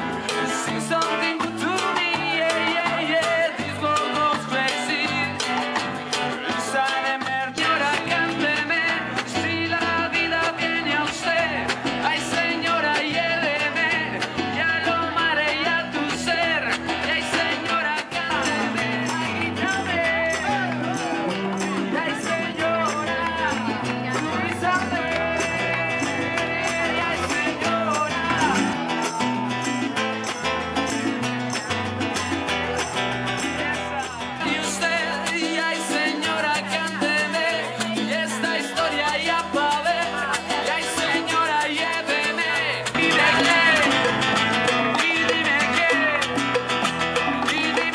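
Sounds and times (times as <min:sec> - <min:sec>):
man singing: 0:00.0 - 0:31.8, 0:33.3 - 0:47.9
bass line: 0:00.0 - 0:47.9
percussion beat: 0:00.0 - 0:47.9
strummed acoustic guitar: 0:00.0 - 0:47.9
timbales and conga: 0:00.0 - 0:47.9.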